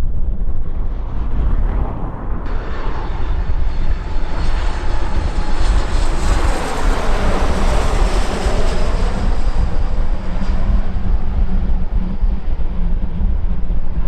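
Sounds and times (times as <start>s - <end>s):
jet engines passing: 0.0s - 14.0s.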